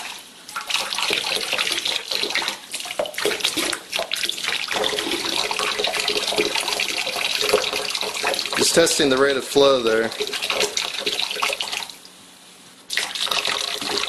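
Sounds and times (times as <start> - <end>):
water pouring into plastic tub: 0.0 - 12.0, 12.9 - 14.0.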